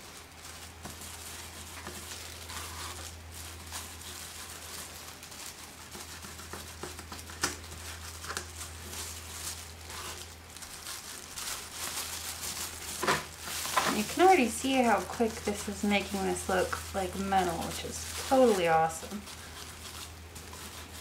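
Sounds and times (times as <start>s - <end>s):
low steady hum: 0.0s - 21.0s
plastic gloves crinkling: 0.0s - 21.0s.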